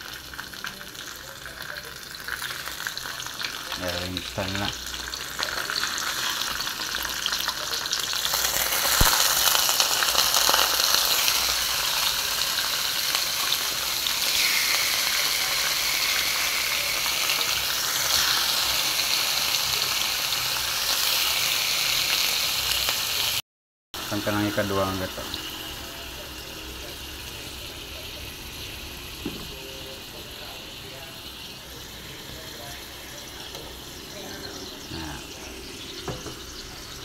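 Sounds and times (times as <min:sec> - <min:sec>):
fish sizzling in hot oil: 0:00.0 - 0:23.4, 0:24.0 - 0:37.0.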